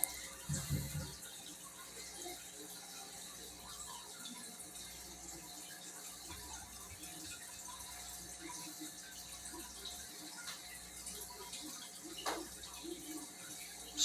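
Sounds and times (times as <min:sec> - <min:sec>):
aquarium water trickling and bubbling: 0:00.0 - 0:14.0.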